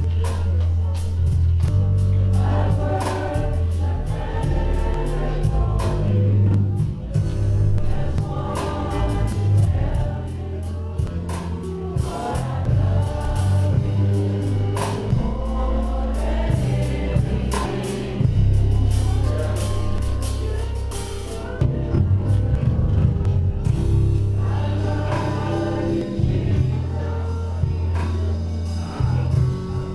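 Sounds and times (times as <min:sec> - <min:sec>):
choir singing over a band: 0:00.0 - 0:29.9
deep sustained bass notes: 0:00.0 - 0:29.9.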